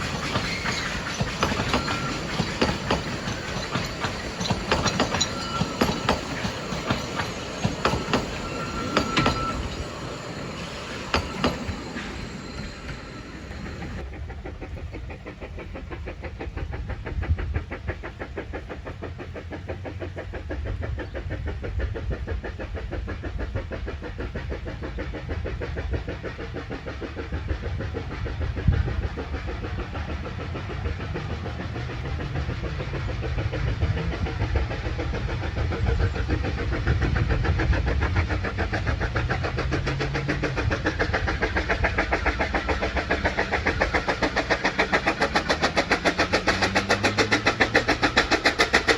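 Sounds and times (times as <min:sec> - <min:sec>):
steam train running: 0:00.0 - 0:48.9.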